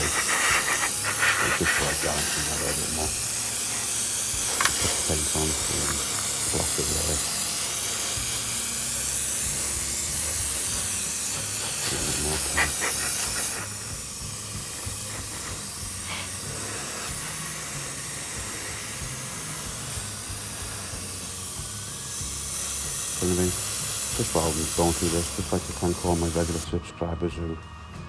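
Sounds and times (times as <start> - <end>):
airbrush hissing: 0.0 - 26.8.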